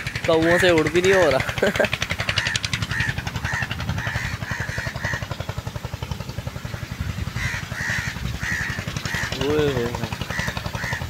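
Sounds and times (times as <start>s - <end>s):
wind buffeting microphone: 0.0s - 11.0s
crows cawing: 0.3s - 5.8s, 6.6s - 11.0s.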